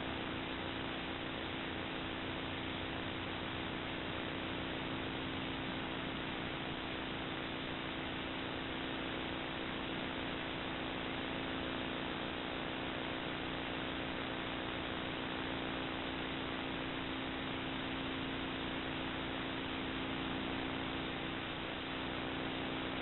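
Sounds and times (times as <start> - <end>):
low mains hum: 0.0 - 23.0.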